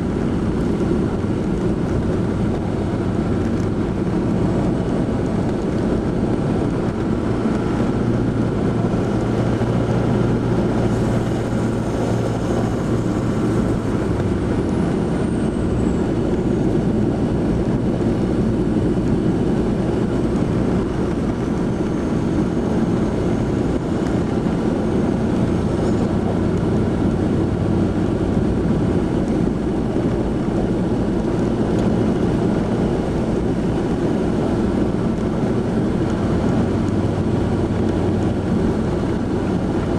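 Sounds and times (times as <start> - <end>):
car interior road drone: 0.0 - 39.9
humming engine: 0.0 - 39.9.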